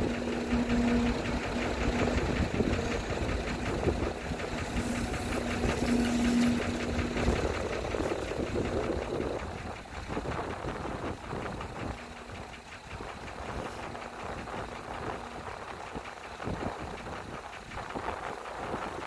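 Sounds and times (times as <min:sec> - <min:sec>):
machine engine idling: 0:00.0 - 0:19.0.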